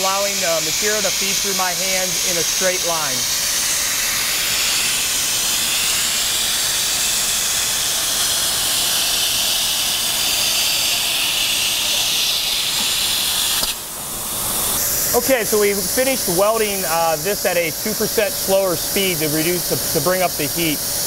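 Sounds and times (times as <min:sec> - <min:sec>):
seam welder air hiss: 0:00.0 - 0:21.0.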